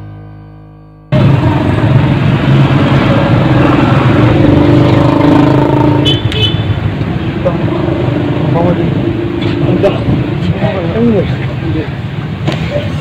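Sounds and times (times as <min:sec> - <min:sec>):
street traffic noise: 0:01.1 - 0:13.0.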